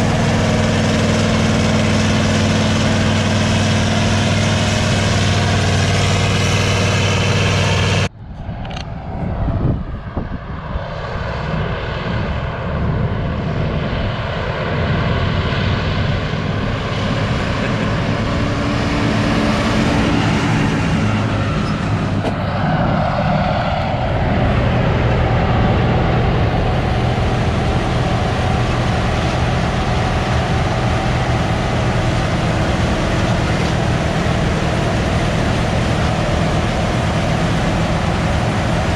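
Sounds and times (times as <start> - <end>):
large diesel engine running: 0.0 - 8.1, 11.5 - 38.9.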